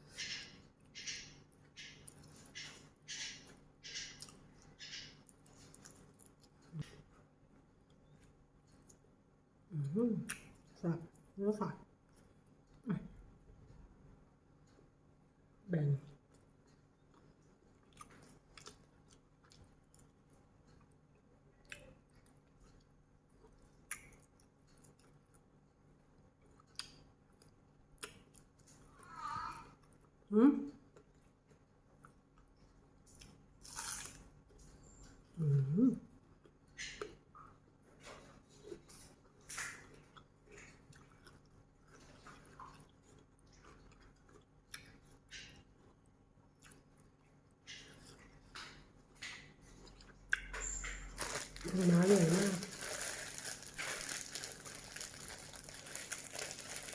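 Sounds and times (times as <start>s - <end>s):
low room hum: 0.0s - 56.9s
faint chewing: 3.5s - 14.0s, 16.0s - 29.0s, 29.6s - 56.9s.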